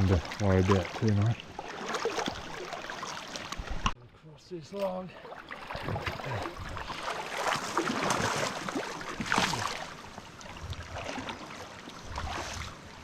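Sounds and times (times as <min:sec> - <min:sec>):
water sloshing and splashing: 0:00.0 - 0:04.0, 0:04.7 - 0:13.0.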